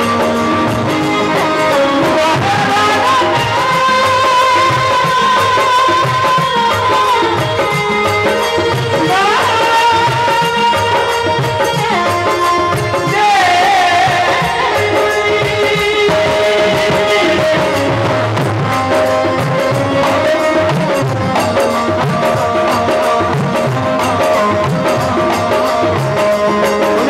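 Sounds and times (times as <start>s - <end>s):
drums: 0.0s - 27.0s
man singing into microphone: 0.0s - 27.0s.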